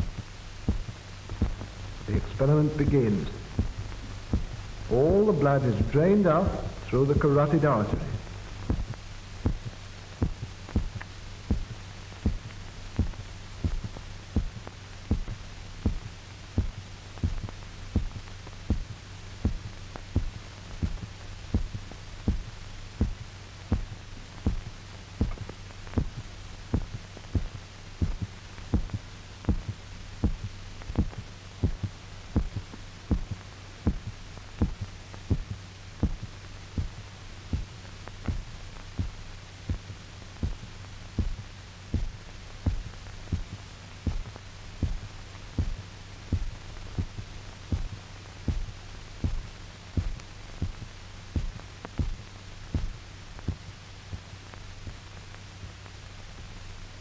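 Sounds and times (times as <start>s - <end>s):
heart beating thumps: 0.0s - 55.8s
steady low hum: 0.0s - 57.0s.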